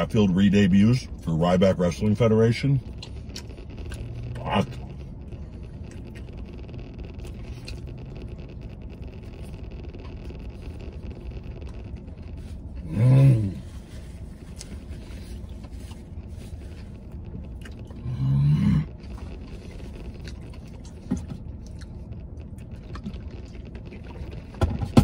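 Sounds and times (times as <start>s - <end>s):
low rumble: 0.0s - 25.0s
man chewing: 2.8s - 25.0s.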